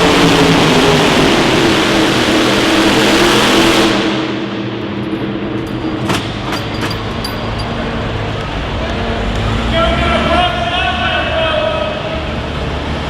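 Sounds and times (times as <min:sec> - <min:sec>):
engine running under load: 0:00.0 - 0:13.0.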